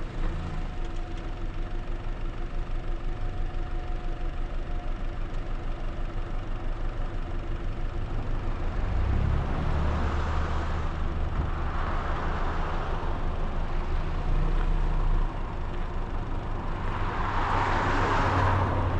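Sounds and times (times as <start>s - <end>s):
car engine and road noise: 0.0s - 18.9s.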